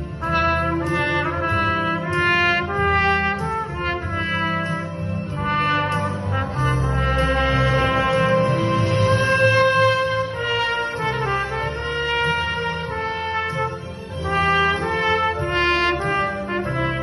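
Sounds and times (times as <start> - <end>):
sustained keyboard accompaniment: 0.0 - 17.0
trumpet solo melody: 0.0 - 17.0.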